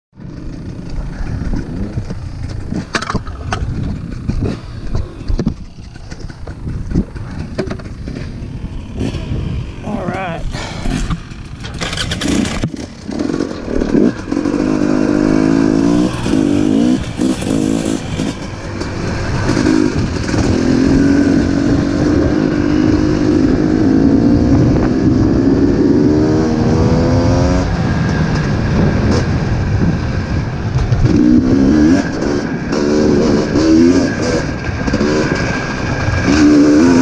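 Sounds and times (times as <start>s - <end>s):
dirt bike engine accelerating: 0.2s - 37.0s
wind rumble on microphone: 0.2s - 37.0s.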